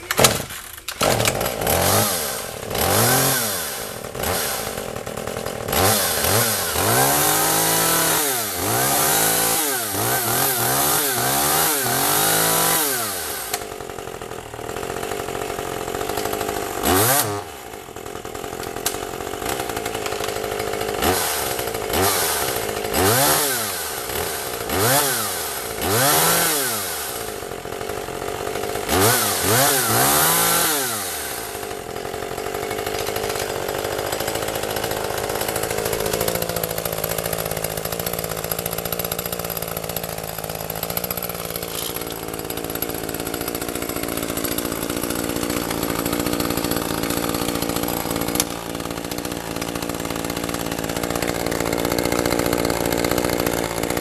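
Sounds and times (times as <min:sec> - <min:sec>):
chainsaw engine revving: 0:00.0 - 0:54.0.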